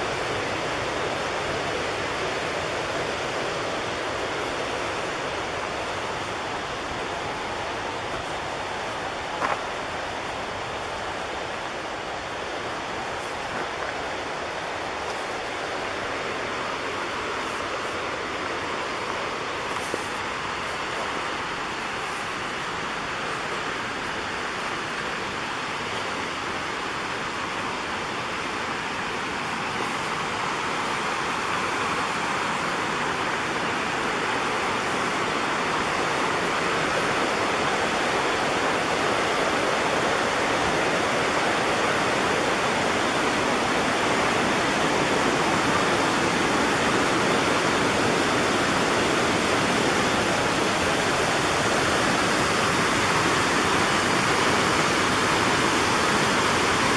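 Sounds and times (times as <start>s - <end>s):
creek rushing over rapids: 0.0s - 56.9s.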